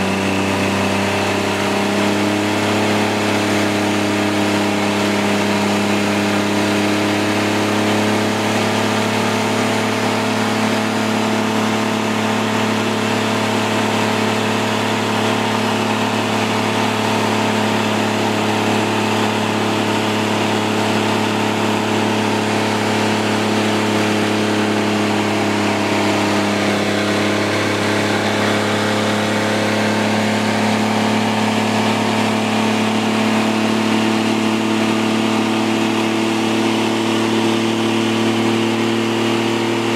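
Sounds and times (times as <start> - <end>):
pickup engine at high revs: 0.0 - 39.9.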